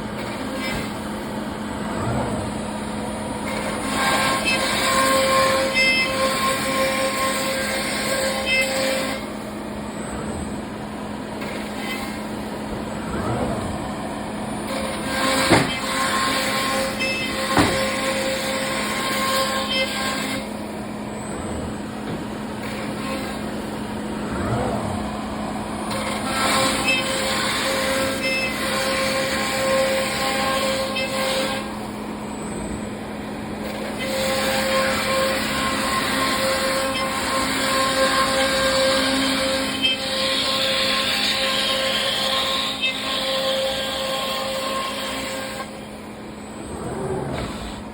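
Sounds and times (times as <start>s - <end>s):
machine drone with hum: 0.0s - 47.9s.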